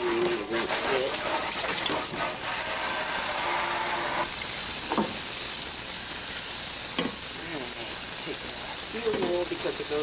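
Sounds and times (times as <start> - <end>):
sink water running: 0.0 - 10.0.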